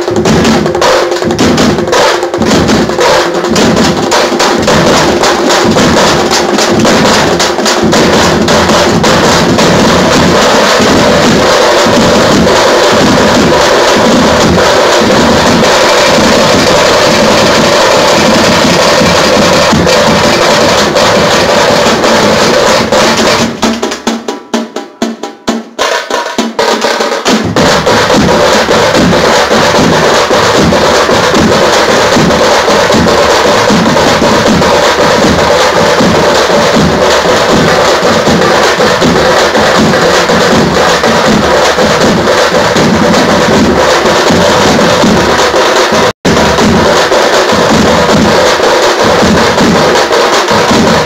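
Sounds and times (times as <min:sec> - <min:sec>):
drum band playing fast rhythm: 0:00.0 - 0:51.0.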